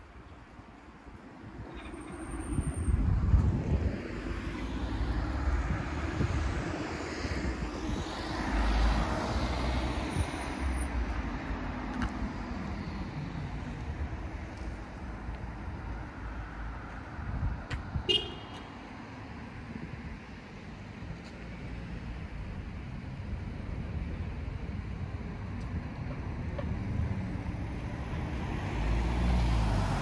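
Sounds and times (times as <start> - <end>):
passing motor traffic: 0.1 - 30.0.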